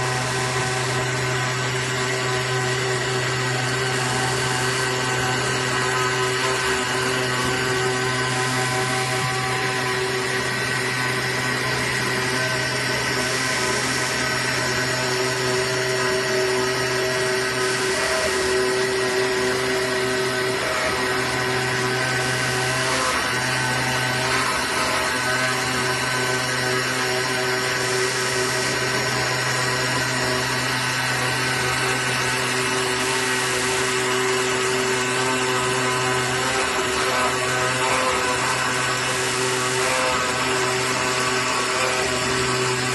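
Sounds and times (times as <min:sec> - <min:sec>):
cutting machine whirring: 0:00.0 - 0:42.9.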